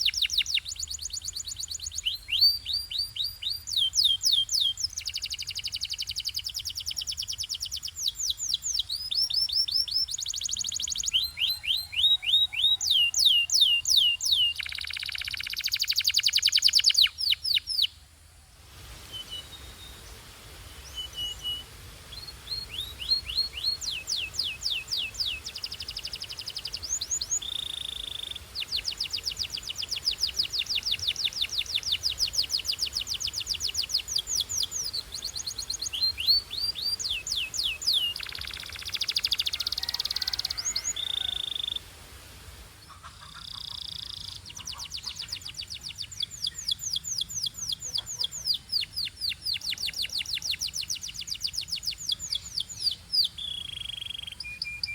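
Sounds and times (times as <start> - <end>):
canary singing: 0.0 - 18.0, 20.8 - 41.8, 43.0 - 54.9.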